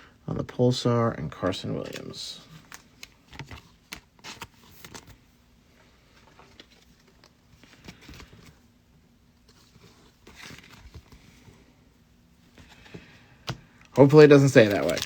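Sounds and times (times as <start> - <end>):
trading cards and wrappers rustling: 1.4 - 11.8, 12.4 - 15.0.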